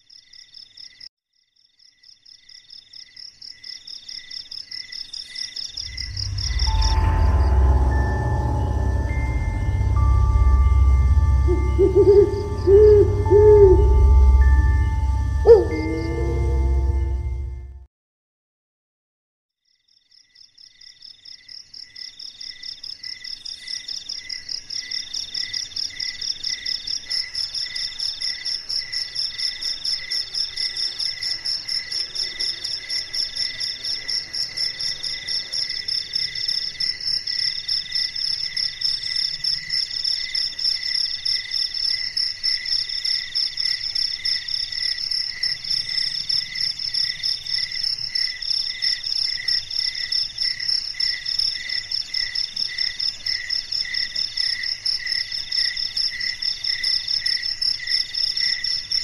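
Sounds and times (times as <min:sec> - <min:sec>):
crickets chirping: 0:00.0 - 0:17.6, 0:20.1 - 0:59.0.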